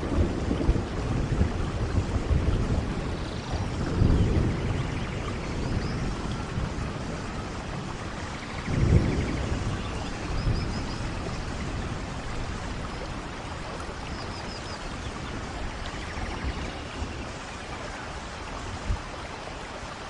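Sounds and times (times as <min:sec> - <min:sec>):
rain on foliage: 0:00.0 - 0:20.0.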